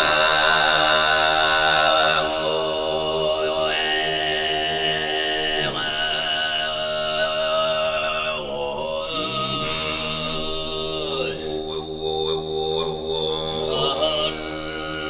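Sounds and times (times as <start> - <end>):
throat singing drone: 0.0 - 15.0.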